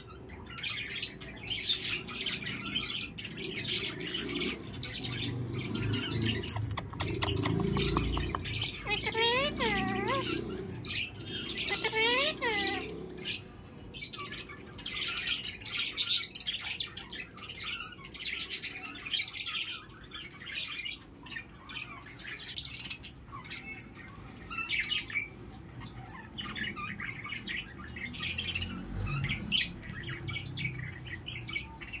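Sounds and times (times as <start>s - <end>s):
parakeet squawking and chirping: 0.0s - 32.0s.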